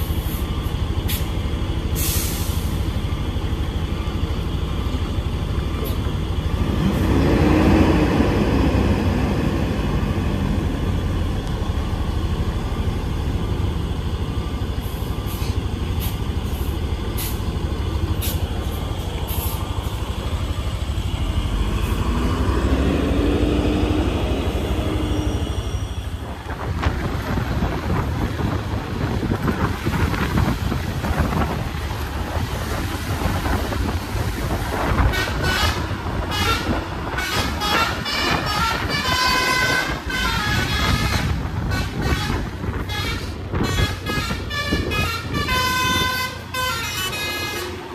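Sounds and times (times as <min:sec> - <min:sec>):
bus diesel engine running: 0:00.0 - 0:47.9.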